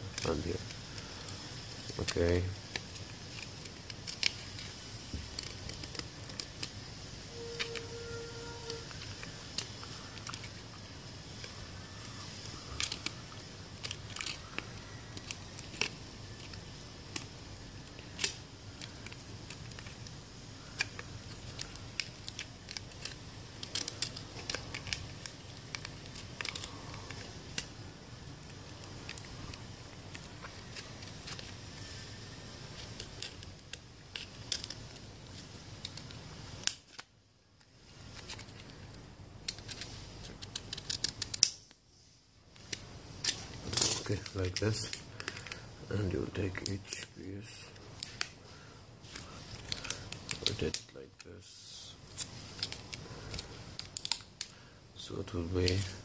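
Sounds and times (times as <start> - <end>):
low steady hum: 0.0 - 56.0
plastic crinkling: 0.0 - 56.0.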